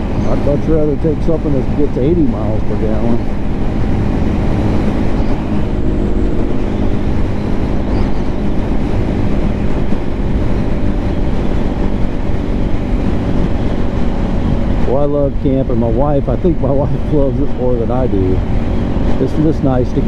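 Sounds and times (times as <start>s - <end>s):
motorcycle engine running: 0.0s - 20.0s
road noise: 0.0s - 20.0s
wind noise: 0.0s - 20.0s.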